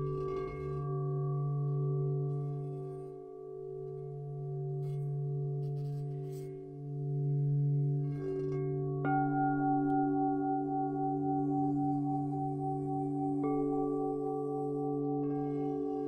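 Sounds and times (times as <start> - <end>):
singing bowls ringing: 0.0 - 16.0.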